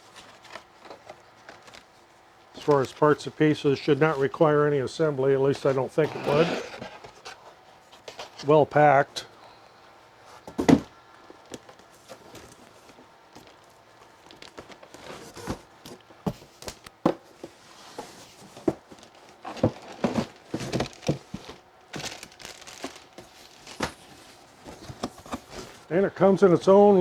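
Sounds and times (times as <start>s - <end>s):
cardboard and plastic rustling: 0.0s - 8.9s, 10.2s - 25.9s.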